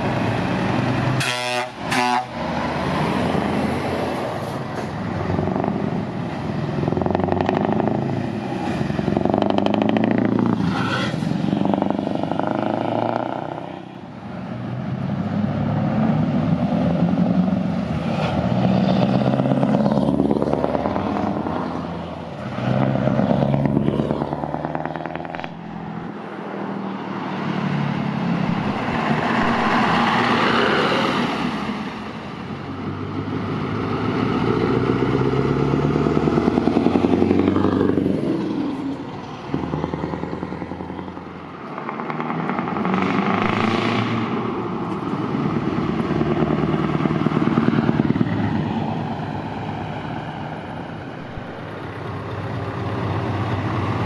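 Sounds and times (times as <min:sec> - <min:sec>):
diesel trucks driving past: 0:00.0 - 0:54.0
truck accelerating: 0:00.0 - 0:54.0.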